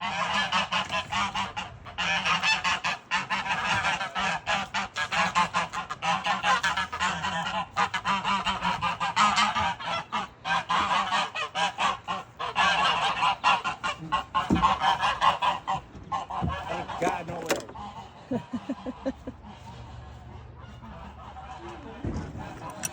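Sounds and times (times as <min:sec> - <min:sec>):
geese honking: 0:00.0 - 0:22.9.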